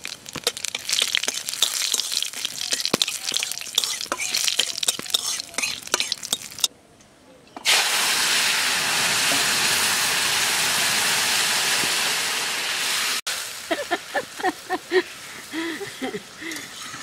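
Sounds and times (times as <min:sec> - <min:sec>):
liquid sizzling in hot oil: 0:00.0 - 0:06.7, 0:07.6 - 0:14.8.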